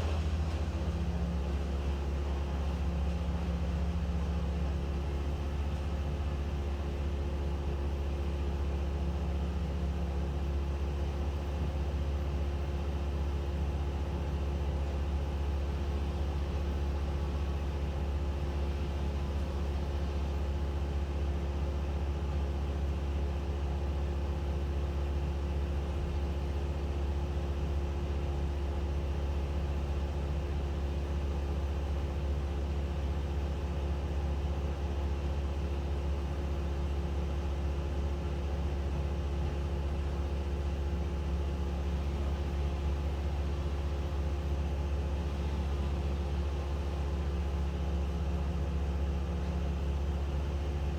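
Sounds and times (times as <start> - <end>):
engine humming steadily: 0.0 - 50.9.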